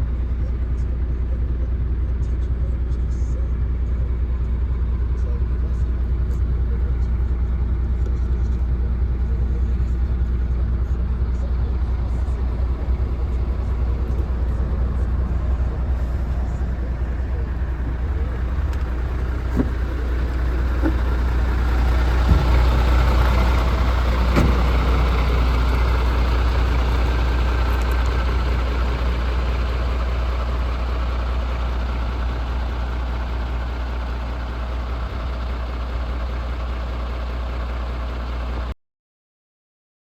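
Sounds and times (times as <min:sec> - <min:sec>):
diesel truck idling: 0:00.0 - 0:38.8.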